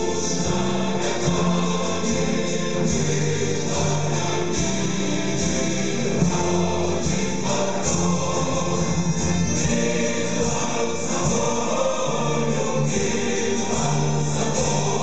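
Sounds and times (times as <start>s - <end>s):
brass band playing: 0.0s - 15.0s
choir singing: 0.0s - 15.0s.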